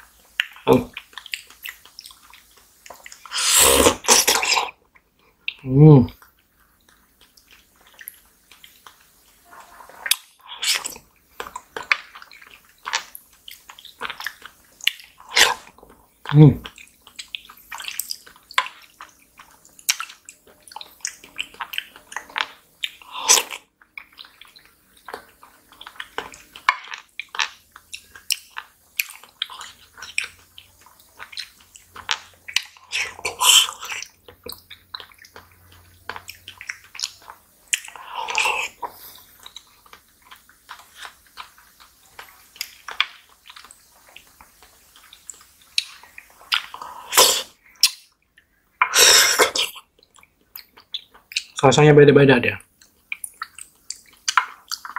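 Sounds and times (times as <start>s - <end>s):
squishy chewing and lip smacks: 0.0s - 51.7s, 52.6s - 54.9s.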